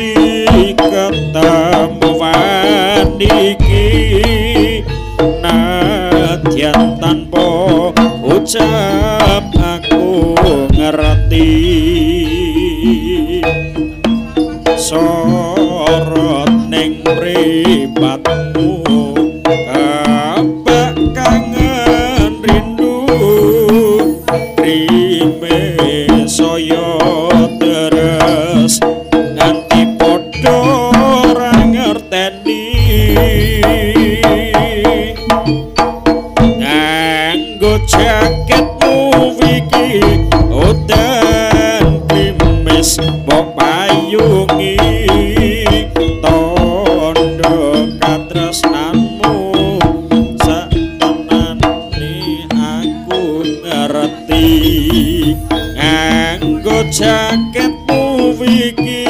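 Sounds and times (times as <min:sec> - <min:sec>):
barrel drums beating fast: 0:00.0 - 0:32.0, 0:32.7 - 0:52.4, 0:54.3 - 0:59.0
gamelan music: 0:00.0 - 0:59.0
gong and metallophone tones: 0:00.0 - 0:59.0
wavering lead melody: 0:00.8 - 0:27.8, 0:32.6 - 0:59.0.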